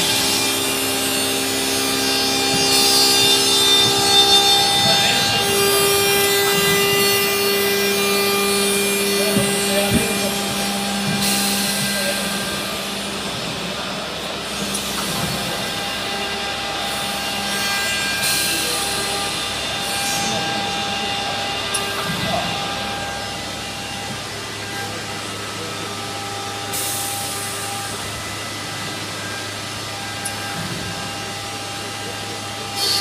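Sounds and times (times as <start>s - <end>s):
hissing cutter noise: 0.0s - 33.0s
wood router machine whine: 0.0s - 33.0s.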